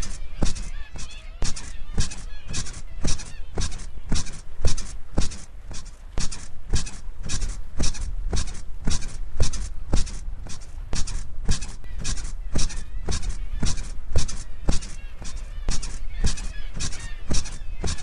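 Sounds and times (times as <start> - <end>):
bed springs squeaking: 0.0 - 18.0
low steady rumble: 0.0 - 18.0.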